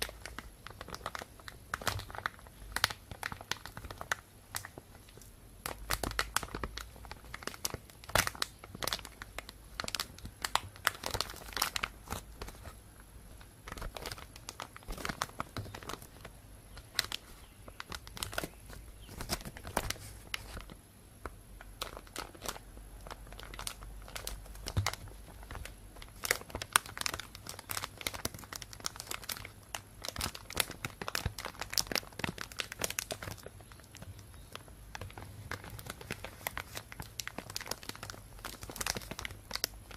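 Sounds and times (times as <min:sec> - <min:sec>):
plastic bag crinkling: 0:00.0 - 0:20.8, 0:21.6 - 0:39.9.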